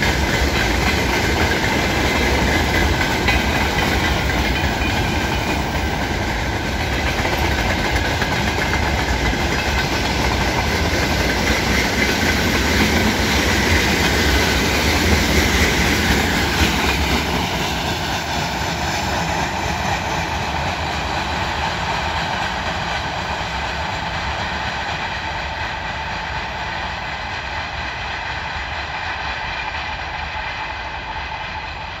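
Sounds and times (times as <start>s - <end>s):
freight train rolling on rails: 0.0s - 32.0s.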